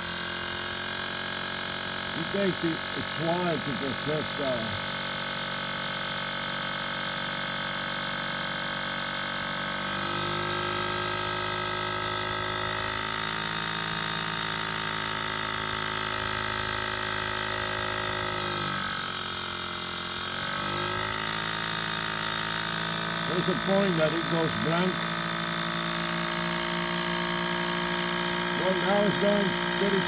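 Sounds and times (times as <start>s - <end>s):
electric motor whine: 0.0s - 30.0s.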